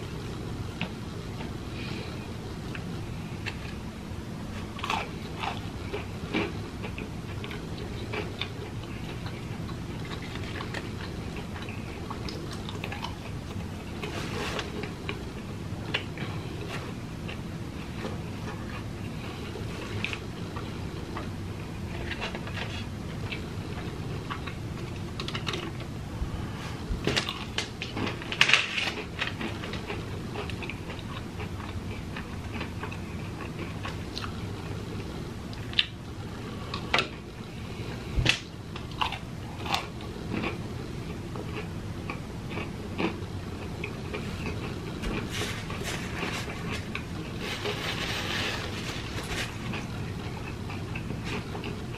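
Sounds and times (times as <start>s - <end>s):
steady low hum: 0.0s - 51.9s
person chewing crunchy food: 4.4s - 25.9s, 27.1s - 38.1s, 38.7s - 51.9s.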